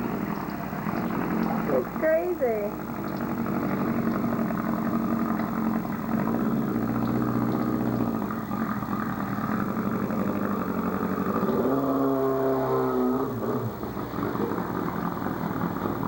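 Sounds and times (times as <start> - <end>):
vehicle engine running and revving: 2.8 - 16.0.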